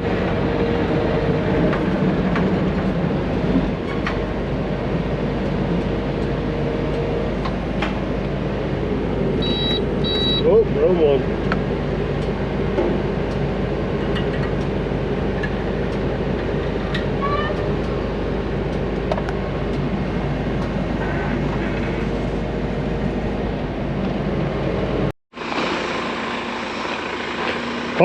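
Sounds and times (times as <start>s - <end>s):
skid steer engine running: 0.0s - 28.0s.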